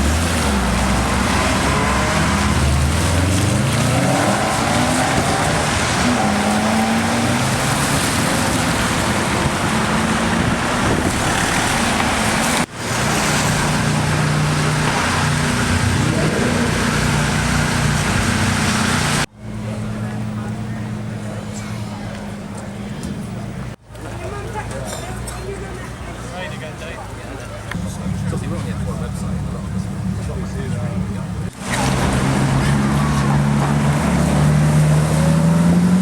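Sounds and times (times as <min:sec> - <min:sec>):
car engines accelerating: 0:00.0 - 0:36.0.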